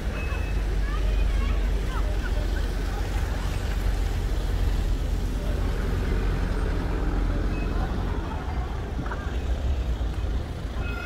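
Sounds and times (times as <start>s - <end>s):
faint voices: 0.0s - 11.0s
road traffic rumble: 0.0s - 11.0s.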